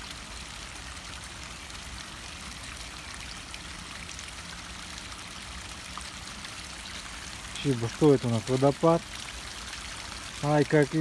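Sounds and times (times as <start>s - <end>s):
stream trickling over cascade: 0.0s - 11.0s.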